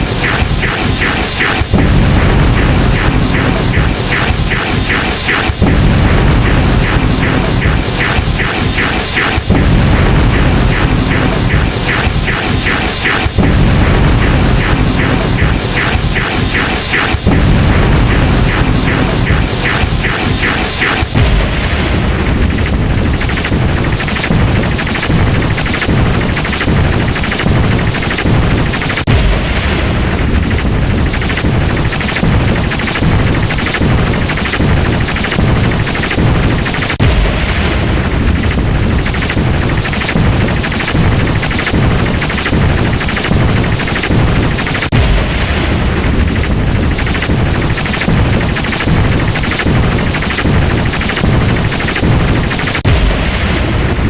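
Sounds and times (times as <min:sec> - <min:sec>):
lightning cracks and thunder: 0:00.0 - 0:54.0.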